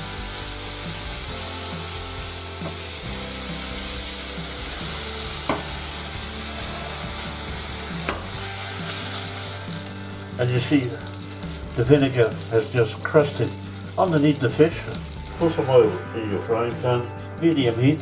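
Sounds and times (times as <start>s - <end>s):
fish sizzling in a frying pan: 0.0s - 15.8s.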